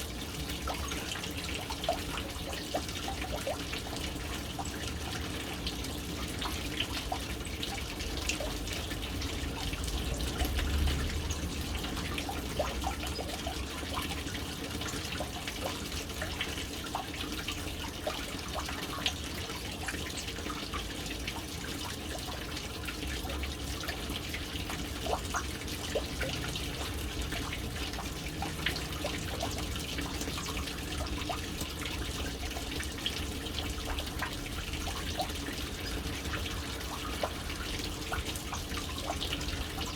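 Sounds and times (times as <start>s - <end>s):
water drips and plinks: 0.0s - 39.9s
water running into tank: 0.0s - 39.9s.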